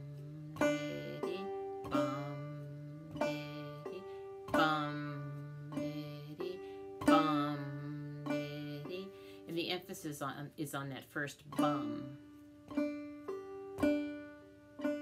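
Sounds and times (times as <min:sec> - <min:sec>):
banjo played clawhammer style: 0:00.0 - 0:15.0.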